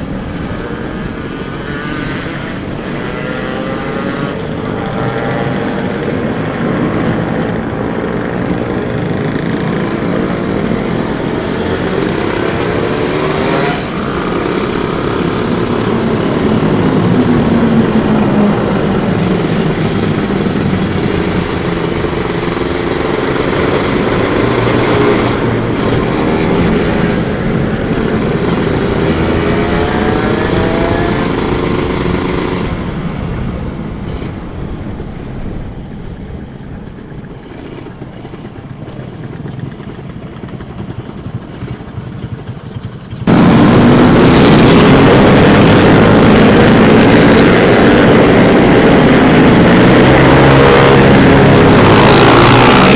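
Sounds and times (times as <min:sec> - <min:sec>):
two-stroke motorcycle engine: 0:00.0 - 0:52.9.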